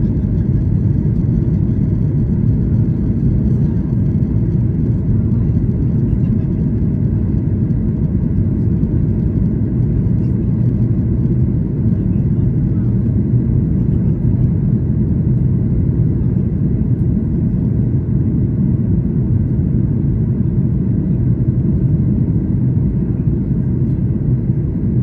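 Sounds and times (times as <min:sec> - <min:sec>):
jet engine drone in cabin: 0:00.0 - 0:25.0.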